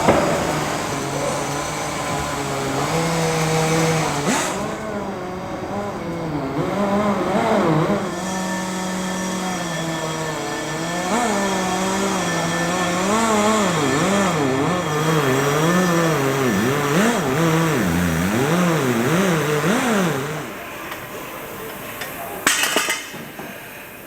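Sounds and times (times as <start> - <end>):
power tool motor running: 0.0 - 24.0.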